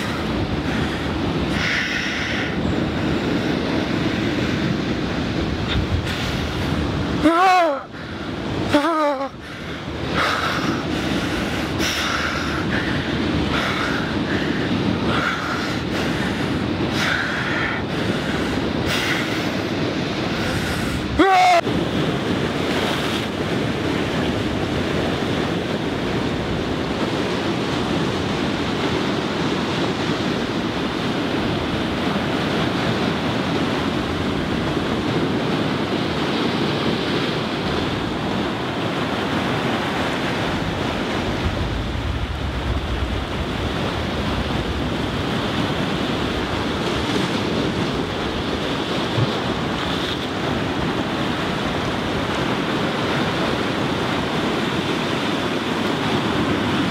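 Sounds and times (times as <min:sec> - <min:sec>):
ocean surf breaking on rocks: 0:00.0 - 0:56.9
wind rumbling on microphone: 0:00.0 - 0:56.9.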